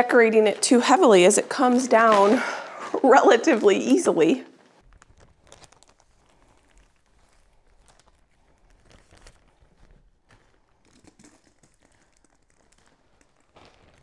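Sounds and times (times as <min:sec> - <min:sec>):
plastic crinkling: 0:00.0 - 0:14.0.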